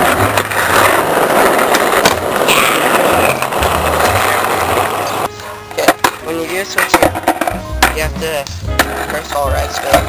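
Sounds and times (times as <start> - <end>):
skateboard wheels rolling on asphalt: 0.0 - 10.0.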